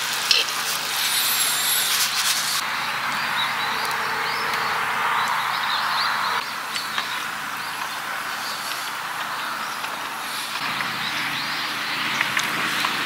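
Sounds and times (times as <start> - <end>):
small birds chirping: 1.6 - 13.0.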